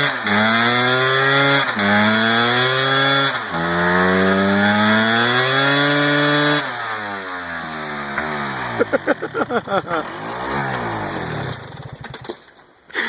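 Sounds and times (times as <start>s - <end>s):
two-stroke engine revving: 0.0s - 12.4s.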